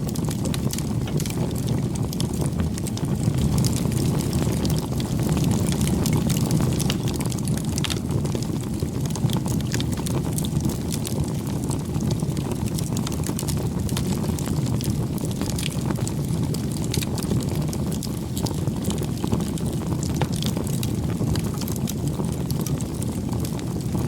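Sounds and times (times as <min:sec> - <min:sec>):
fire crackling and popping: 0:00.0 - 0:24.0
flames rushing: 0:00.0 - 0:24.0.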